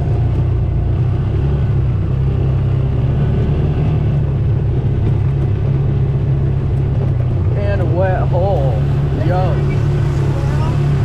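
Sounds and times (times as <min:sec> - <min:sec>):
off-road vehicle engine drone: 0:00.0 - 0:11.0.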